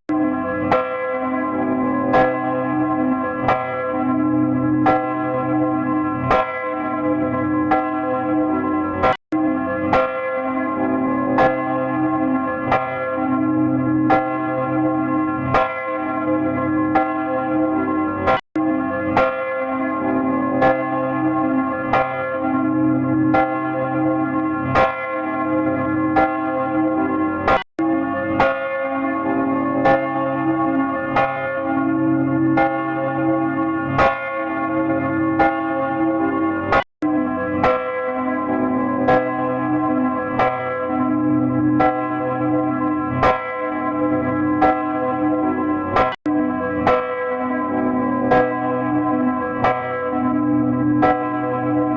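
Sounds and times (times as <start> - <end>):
church bell ringing: 0.1 - 51.9.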